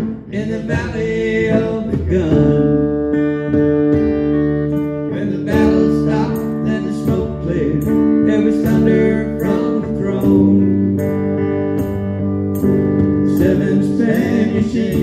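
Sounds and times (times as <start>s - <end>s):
electric guitar strumming: 0.0s - 15.0s.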